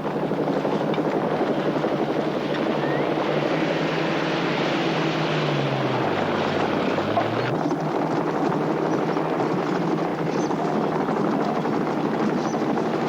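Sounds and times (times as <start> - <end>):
fluttering engine drone: 0.0 - 13.0.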